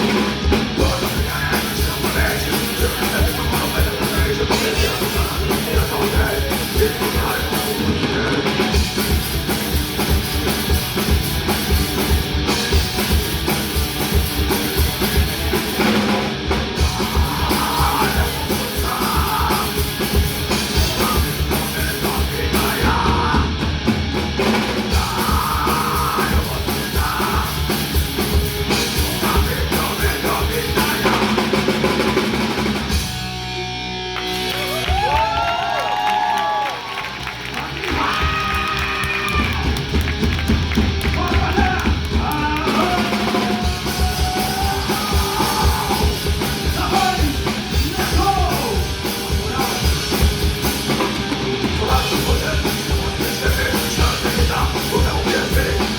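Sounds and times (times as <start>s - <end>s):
drum kit with rapid kick drum: 0.0s - 33.6s, 37.8s - 55.9s
distorted electric guitar: 0.0s - 35.1s, 37.3s - 55.9s
bass guitar: 0.0s - 55.9s.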